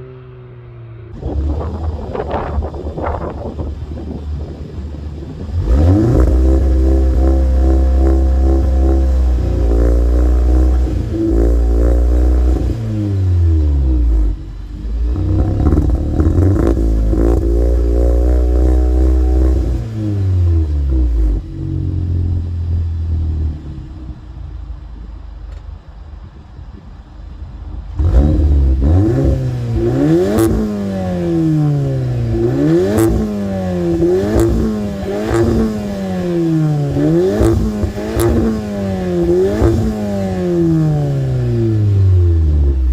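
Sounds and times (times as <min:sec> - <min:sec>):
car engine revving: 0:00.0 - 0:25.4, 0:27.8 - 0:42.9
exhaust cracks: 0:01.0 - 0:42.9.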